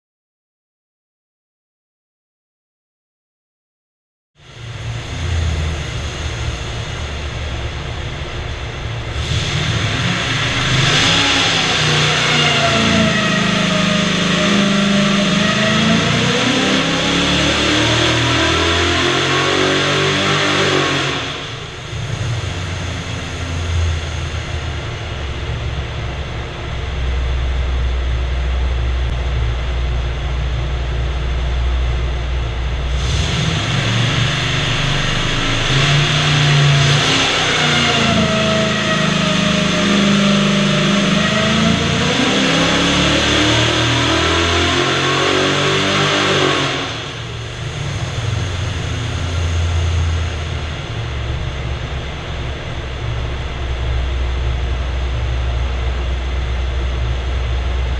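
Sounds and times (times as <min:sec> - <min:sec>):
engine revving on dyno: 0:04.4 - 0:57.9.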